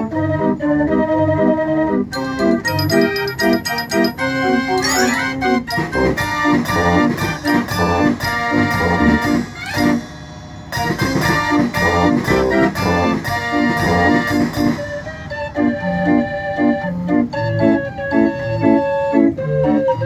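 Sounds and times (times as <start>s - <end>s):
fairground organ playing lively tune: 1.9s - 9.6s, 11.0s - 20.0s.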